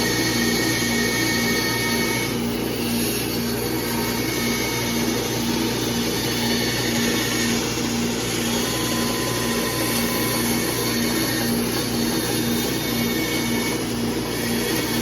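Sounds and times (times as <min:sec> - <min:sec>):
bandsaw running: 0:00.0 - 0:15.0.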